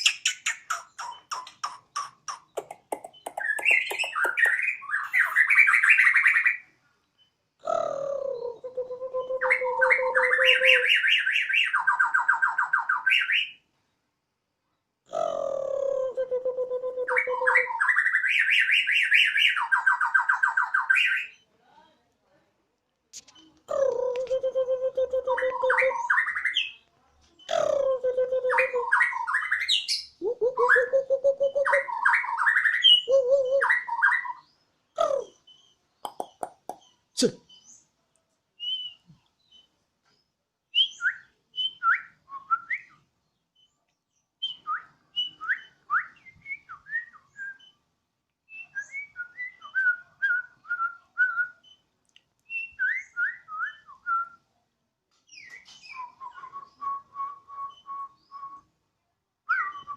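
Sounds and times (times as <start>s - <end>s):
bird singing whistled song: 0.0s - 7.7s, 8.4s - 13.6s, 16.0s - 21.4s, 23.3s - 26.8s, 27.4s - 37.8s, 38.6s - 39.8s, 40.7s - 54.5s, 55.2s - 58.8s, 59.4s - 59.9s
bird chirping: 0.0s - 21.9s, 23.2s - 54.5s, 55.1s - 58.8s.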